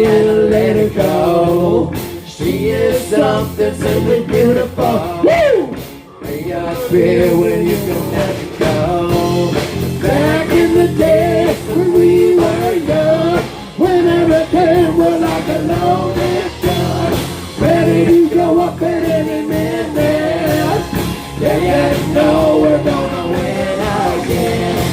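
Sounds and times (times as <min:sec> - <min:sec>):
rock band with singing: 0:00.0 - 0:24.9.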